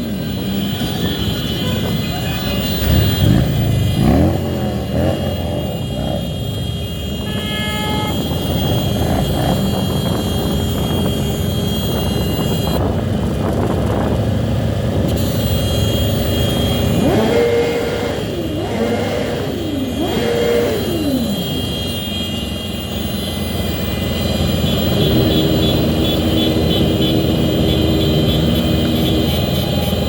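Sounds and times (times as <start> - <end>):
engine revving: 0.0 - 6.6, 8.1 - 30.0
vehicle horn: 0.0 - 12.9, 15.0 - 30.0
motorcycle and car engines: 0.0 - 30.0.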